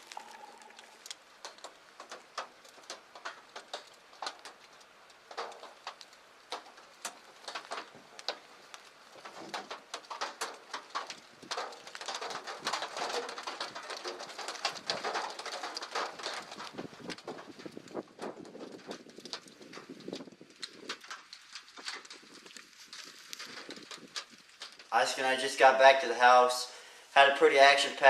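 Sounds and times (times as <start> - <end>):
raindrops pattering: 0.0 - 28.0.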